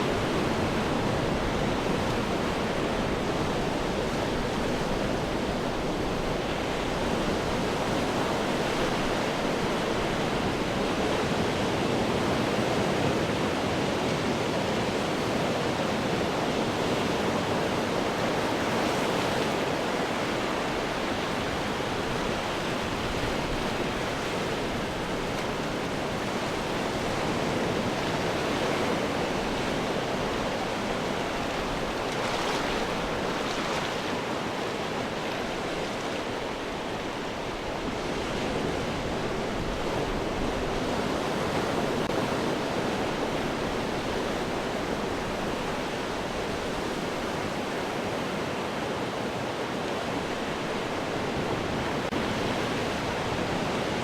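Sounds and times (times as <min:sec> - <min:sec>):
ocean surf breaking against rocks: 0:00.0 - 0:54.0.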